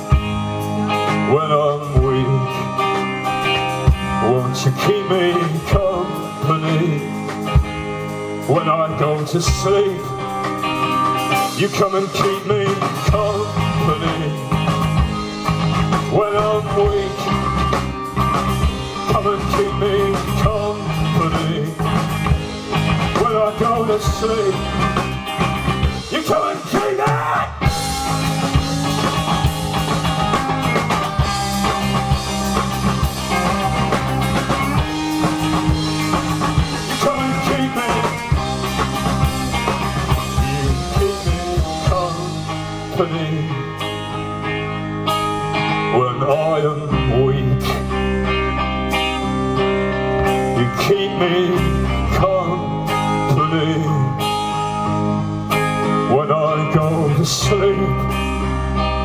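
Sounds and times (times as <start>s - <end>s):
electric guitar slide: 0.0s - 59.0s
live rock band playing: 0.0s - 59.0s.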